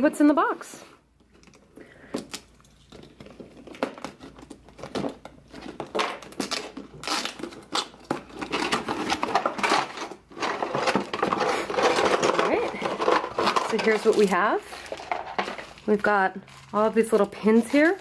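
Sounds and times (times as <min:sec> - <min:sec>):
tape tearing: 0:02.2 - 0:18.0
cardboard rustling and scraping: 0:02.8 - 0:18.0.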